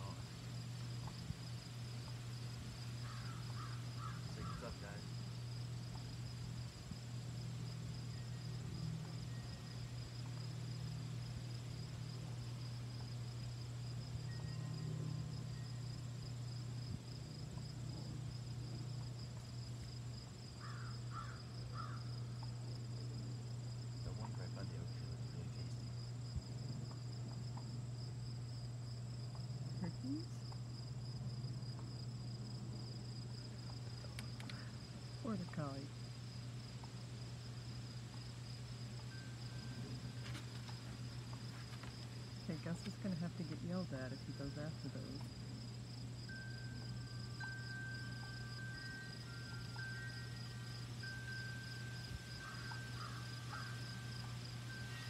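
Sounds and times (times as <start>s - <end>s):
insects trilling: 0.0s - 55.0s
steady low hum: 0.0s - 55.0s.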